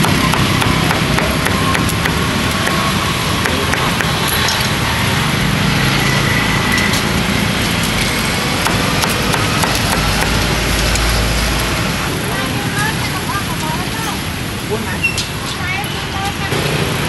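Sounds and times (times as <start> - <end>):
street traffic engines: 0.0 - 17.0.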